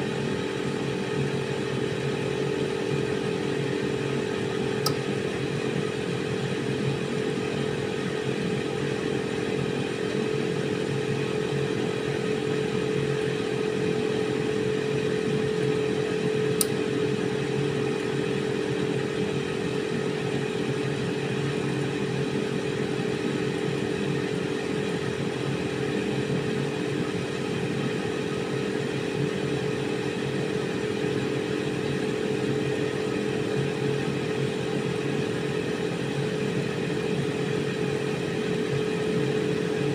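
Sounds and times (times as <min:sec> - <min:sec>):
air fryer fan whirring: 0:00.0 - 0:39.9.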